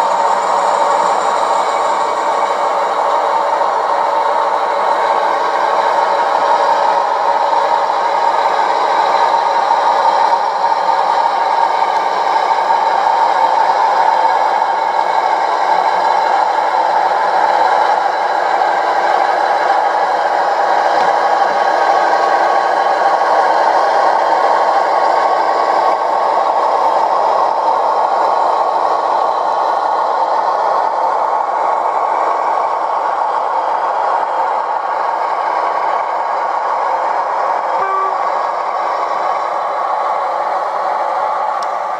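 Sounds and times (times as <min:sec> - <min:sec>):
model locomotive running: 0:00.0 - 0:41.9.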